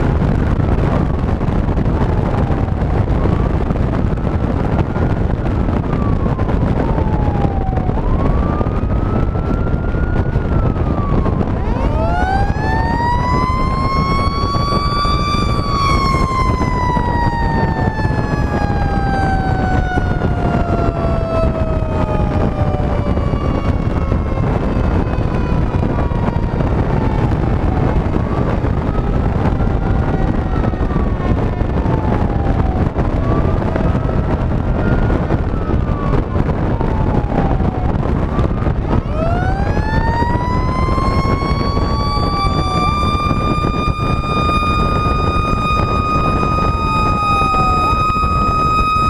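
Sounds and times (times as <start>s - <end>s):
fire engine siren wailing: 0.0s - 49.0s
wind and road rush: 0.0s - 49.0s
fainter wail siren: 0.2s - 49.0s.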